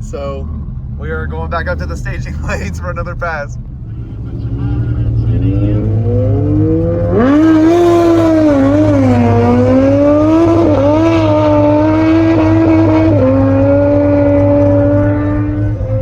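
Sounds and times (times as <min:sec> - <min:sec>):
car engine driving at low speed: 0:00.0 - 0:16.0.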